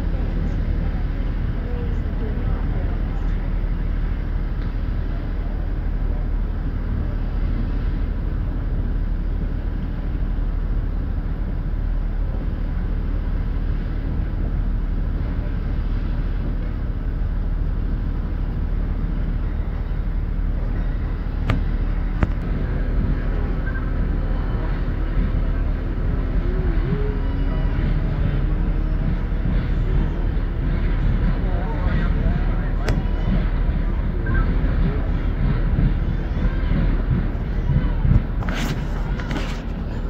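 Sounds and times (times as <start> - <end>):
railway platform rumble: 0.0 - 40.0.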